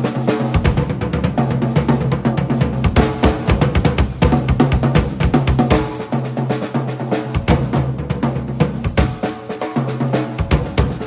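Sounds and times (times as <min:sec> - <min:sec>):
acoustic drum kit: 0:00.0 - 0:11.0.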